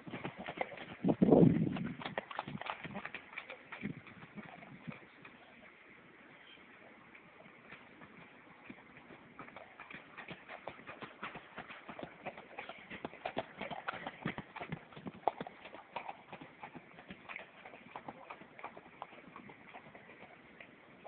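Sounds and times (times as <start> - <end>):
horse hooves clip-clopping: 0.0 - 21.0.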